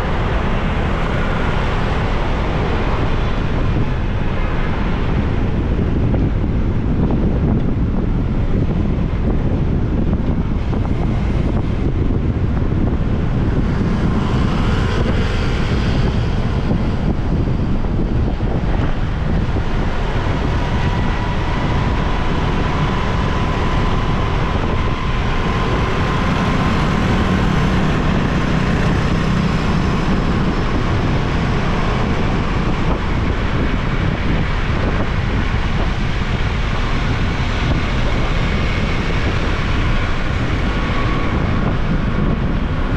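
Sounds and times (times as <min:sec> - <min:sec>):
road traffic: 0:00.0 - 0:42.9
wind rushing over microphone: 0:00.0 - 0:42.9.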